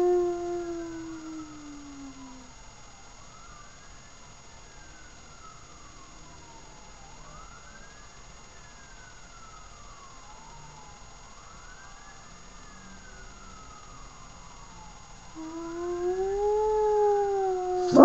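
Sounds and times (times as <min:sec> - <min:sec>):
faint siren wailing: 0:00.0 - 0:18.0.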